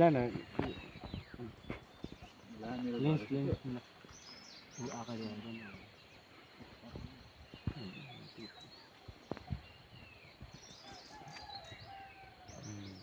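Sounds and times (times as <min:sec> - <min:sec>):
faint forest birdsong: 0:00.0 - 0:13.0.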